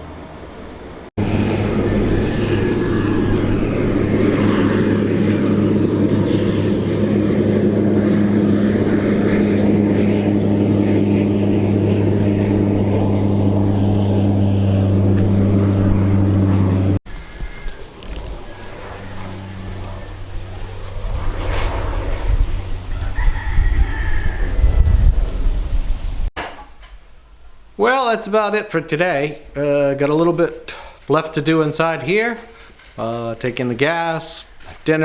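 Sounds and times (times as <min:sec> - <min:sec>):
propeller engines droning: 0:00.0 - 0:26.3, 0:27.3 - 0:35.0.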